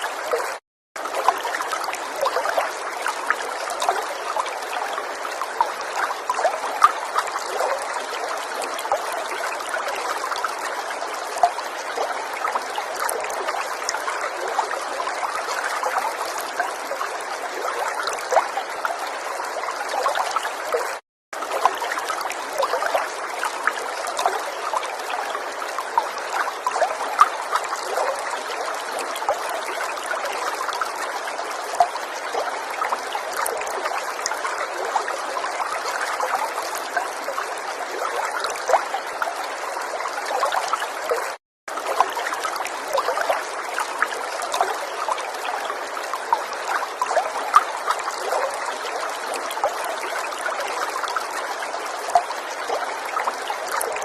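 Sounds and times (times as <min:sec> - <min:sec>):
river water babbling over stones: 0:00.0 - 0:54.0.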